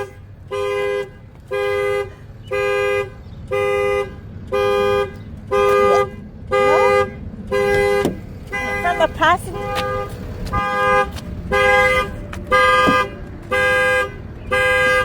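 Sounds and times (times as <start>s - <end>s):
car alarm horn blasts: 0.0s - 15.0s.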